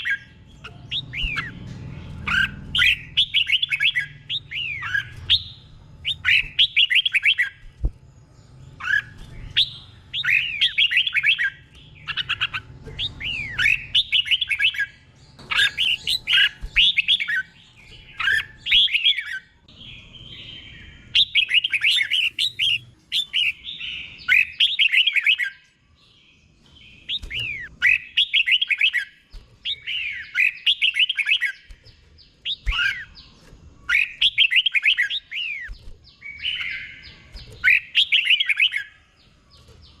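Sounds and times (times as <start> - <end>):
bird singing warbled phrases: 0.0 - 40.0.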